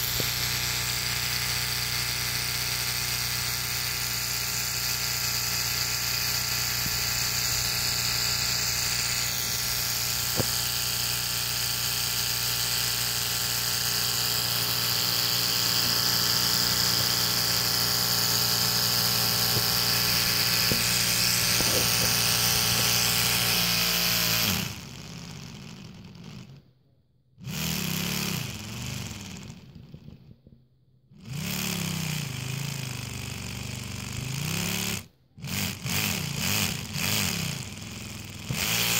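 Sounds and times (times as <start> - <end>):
small electric motor whirring: 0.0 - 26.6, 27.4 - 30.2, 31.2 - 38.9.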